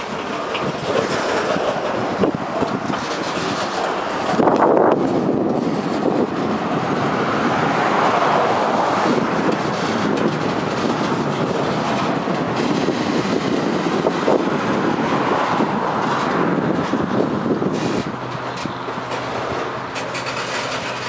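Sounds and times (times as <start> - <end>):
train wheels on rail: 0.0 - 21.0.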